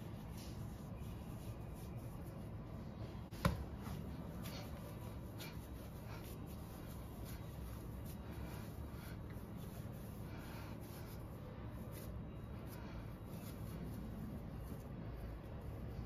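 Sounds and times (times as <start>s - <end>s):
hands kneading dough: 0.0s - 16.0s
low steady hum: 0.0s - 16.0s.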